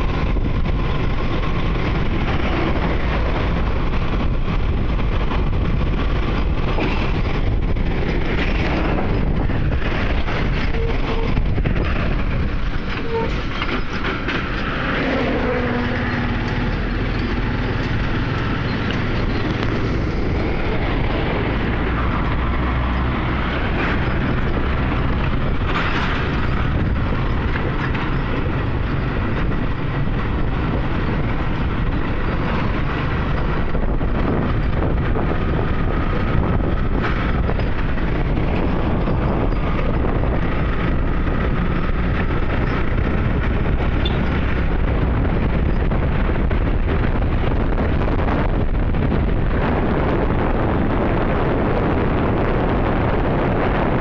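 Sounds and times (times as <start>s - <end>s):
heavy trucks passing: 0.0s - 54.0s
road and wind noise: 0.0s - 54.0s.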